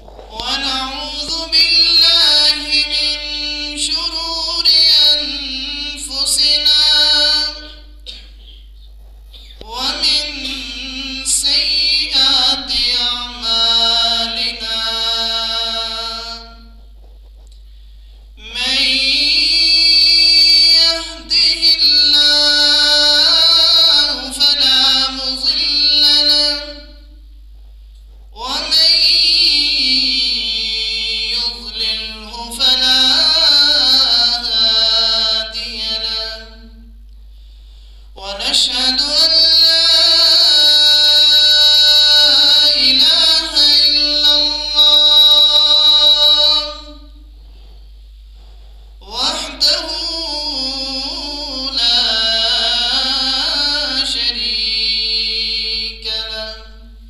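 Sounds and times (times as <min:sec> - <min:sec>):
man chanting through microphone: 0:00.0 - 0:08.4, 0:09.4 - 0:17.0, 0:18.4 - 0:27.2, 0:28.2 - 0:37.0, 0:38.2 - 0:47.7, 0:49.0 - 0:57.0
man reciting melodically: 0:00.0 - 0:08.8, 0:09.4 - 0:17.0, 0:18.3 - 0:27.3, 0:28.2 - 0:37.1, 0:38.2 - 0:47.3, 0:49.0 - 0:57.0.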